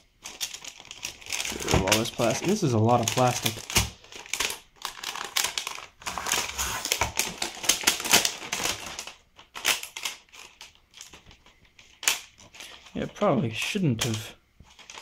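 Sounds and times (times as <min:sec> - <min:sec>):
plastic film crackling and rustling: 0:00.0 - 0:15.0.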